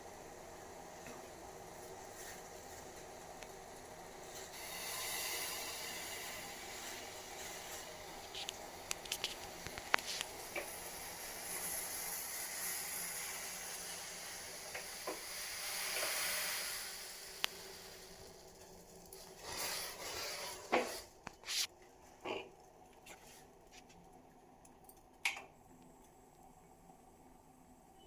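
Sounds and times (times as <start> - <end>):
water boiling in a pot: 0.0 - 28.0.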